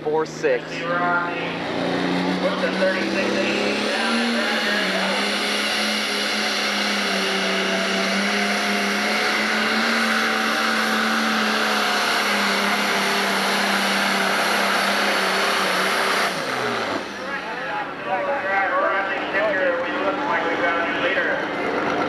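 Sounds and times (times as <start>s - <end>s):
diesel tractor engine at full throttle: 0.0s - 22.0s.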